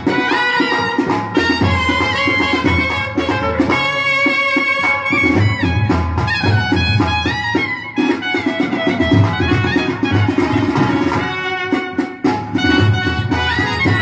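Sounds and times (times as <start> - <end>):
clarinet melody: 0.0 - 14.0
steady drum beat: 0.0 - 14.0
trumpet: 0.0 - 14.0.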